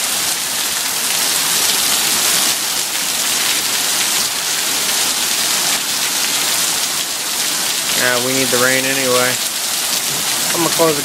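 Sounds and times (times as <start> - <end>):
heavy rain on concrete and cars: 0.0 - 11.0.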